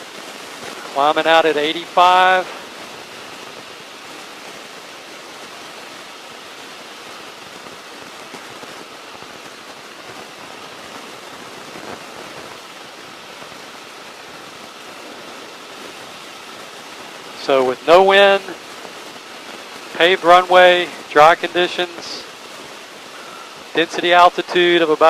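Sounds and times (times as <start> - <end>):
light plane engine and propeller: 0.0 - 25.0.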